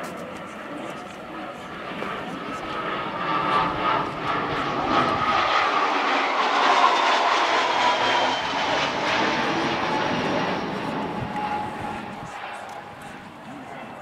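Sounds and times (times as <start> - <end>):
aircraft engine droning: 0.0 - 14.0.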